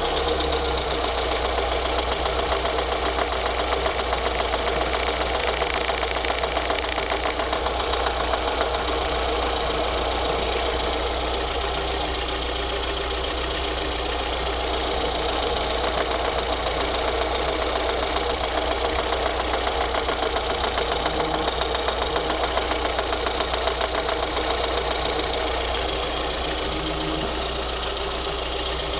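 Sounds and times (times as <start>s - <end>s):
car engine idling: 0.0s - 28.9s
rapid knocking from engine: 0.0s - 28.9s.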